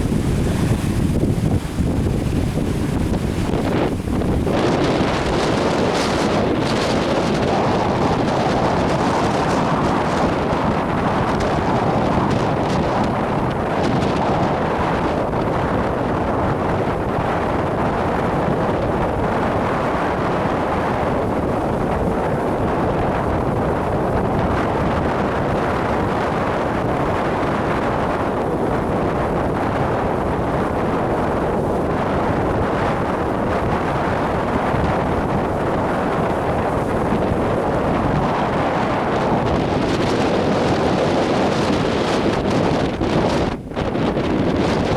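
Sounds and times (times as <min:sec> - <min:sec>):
waves washing ashore: 0:00.0 - 0:44.9
wind buffeting microphone: 0:00.0 - 0:44.9.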